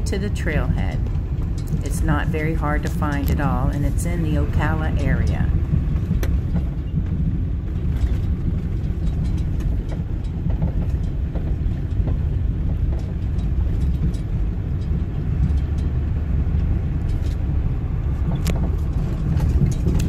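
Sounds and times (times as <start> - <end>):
car driving on sand road: 0.0 - 20.0.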